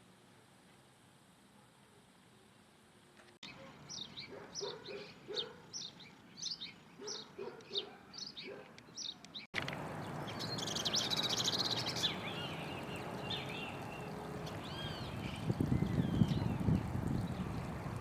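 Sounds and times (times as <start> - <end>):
outdoor background noise: 0.0 - 18.0
birds chirping and trilling: 3.4 - 18.0.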